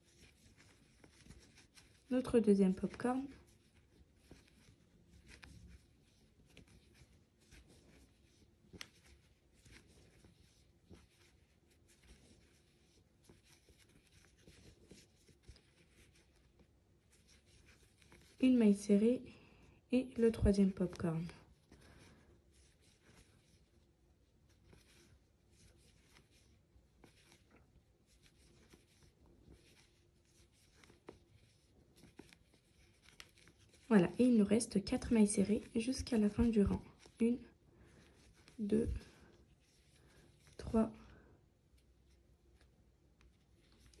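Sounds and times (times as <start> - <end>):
crochet hook rustling yarn: 0.0 - 44.0.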